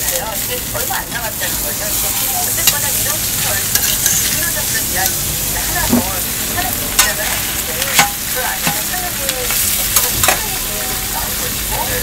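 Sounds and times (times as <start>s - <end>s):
meat sizzling on griddle: 0.0s - 12.0s
metal utensils clicking on griddle: 0.0s - 12.0s.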